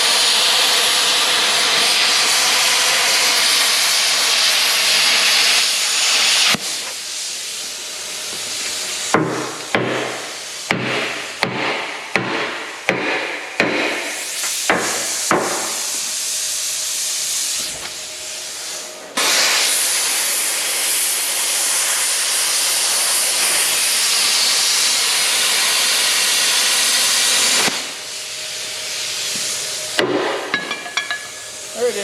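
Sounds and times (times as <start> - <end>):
cutting torch hissing: 0.0 - 32.0.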